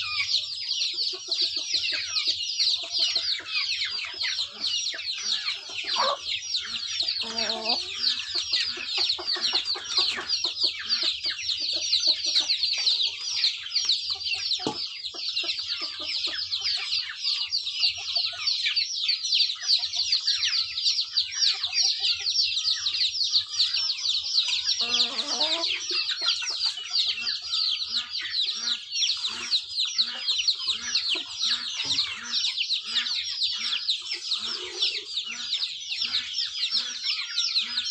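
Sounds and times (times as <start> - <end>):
chickens peeping: 0.0 - 37.9.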